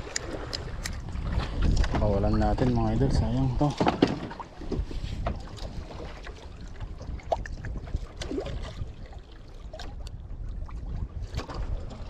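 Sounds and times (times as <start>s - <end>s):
water sloshing around boat: 0.0s - 12.0s
wind rumble on microphone: 0.0s - 12.0s.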